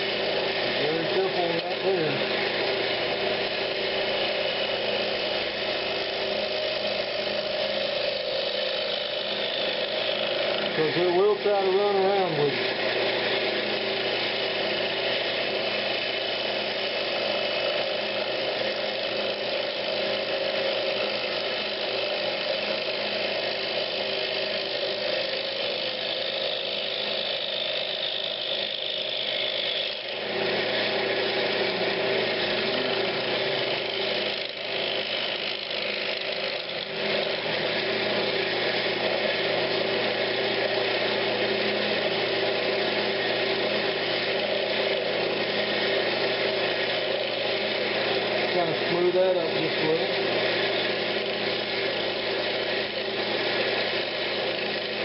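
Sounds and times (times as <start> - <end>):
turning tool scraping wood: 0.0 - 55.0
wood lathe running: 0.0 - 55.0.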